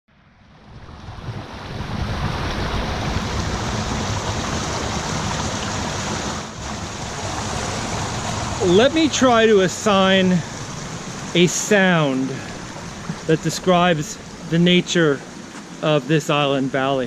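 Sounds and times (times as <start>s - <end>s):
running water rushing: 0.4s - 17.0s.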